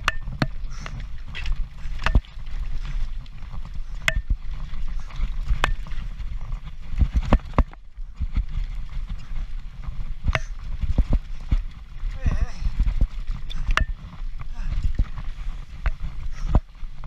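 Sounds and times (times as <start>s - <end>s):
bike clattering over rocks: 0.0s - 12.2s, 12.8s - 16.7s
steady low rumble: 0.0s - 17.0s.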